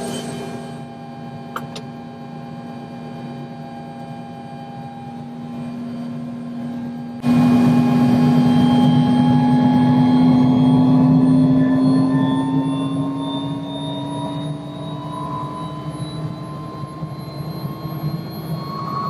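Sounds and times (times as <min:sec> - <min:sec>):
helicopter turbine engine: 0:00.0 - 0:19.0.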